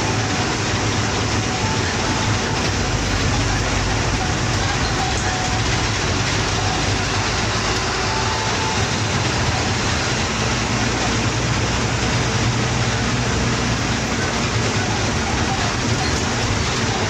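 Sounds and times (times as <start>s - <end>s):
bus engine running: 0.0s - 17.0s
road noise and rattling: 0.0s - 17.0s.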